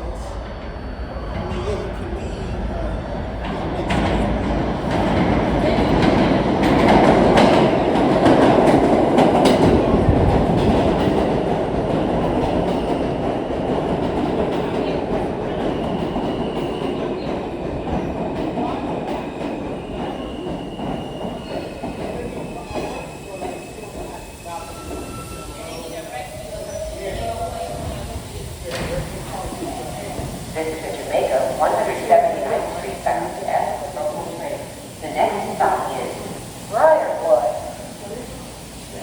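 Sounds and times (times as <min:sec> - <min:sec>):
subway wheels clattering: 0:00.0 - 0:39.0.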